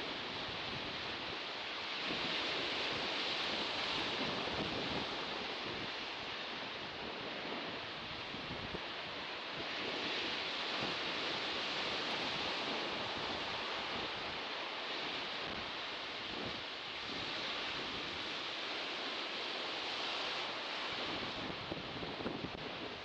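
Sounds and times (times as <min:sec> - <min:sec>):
waves breaking on shore: 0:00.0 - 0:23.0.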